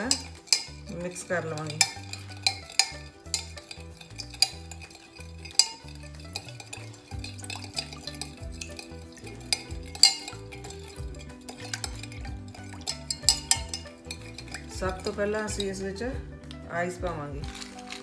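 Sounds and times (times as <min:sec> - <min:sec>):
metal spoon clinking against glass: 0:00.0 - 0:15.8, 0:17.4 - 0:18.0.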